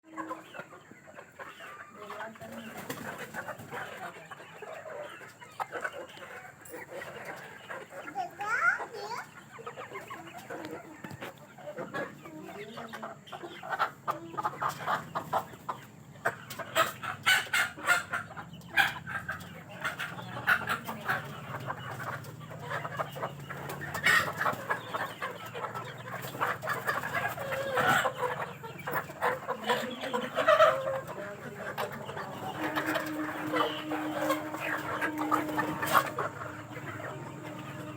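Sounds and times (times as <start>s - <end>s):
chickens clucking and calling: 0.0s - 37.9s.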